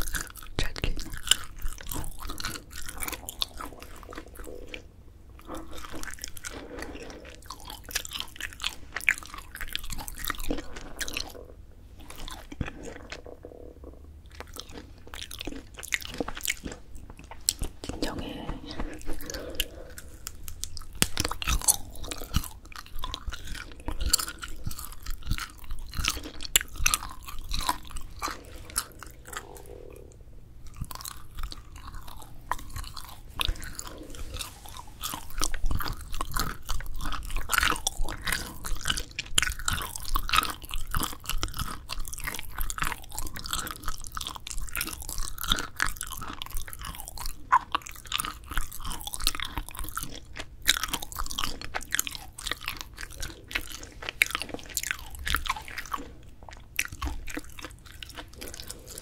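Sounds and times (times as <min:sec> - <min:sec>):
crisp chewing and crunching: 0:00.0 - 0:59.0.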